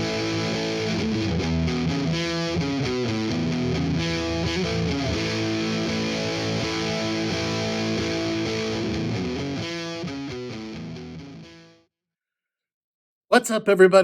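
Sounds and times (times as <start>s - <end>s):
distorted electric guitar chords: 0.0s - 11.7s.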